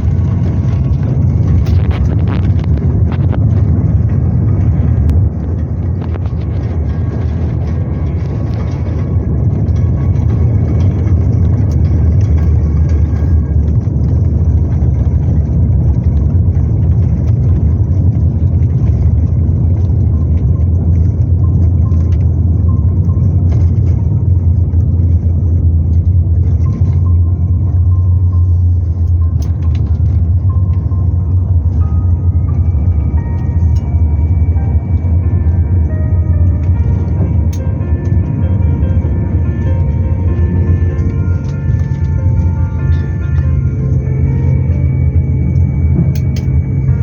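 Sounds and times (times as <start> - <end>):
airplane cabin engine rumble: 0.0 - 47.0
faint steady tones: 0.0 - 47.0.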